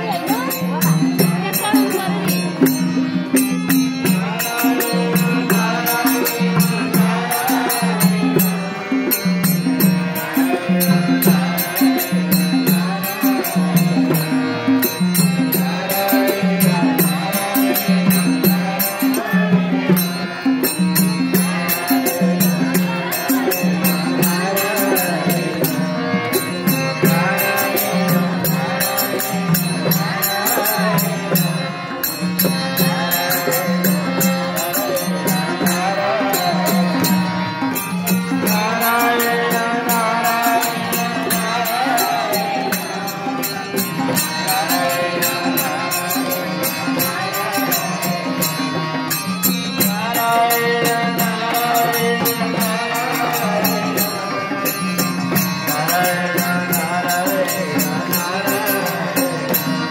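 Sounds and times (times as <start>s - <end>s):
group of voices singing: 0.0s - 59.9s
hand percussion beat: 0.0s - 59.9s.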